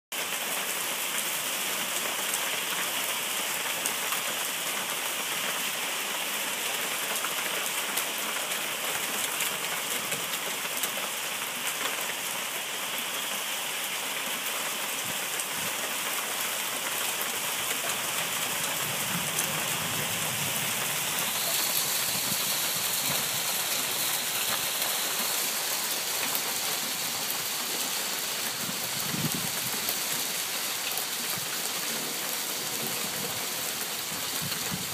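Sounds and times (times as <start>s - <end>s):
hail falling on hard surfaces: 0.2s - 34.9s.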